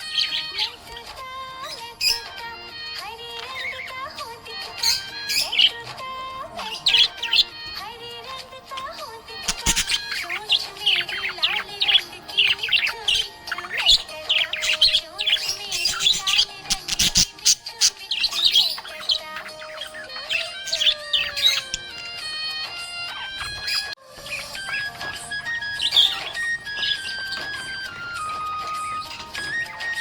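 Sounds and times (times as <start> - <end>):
budgerigars chirping: 0.0 - 1.0, 1.6 - 30.0
background music: 0.0 - 30.0.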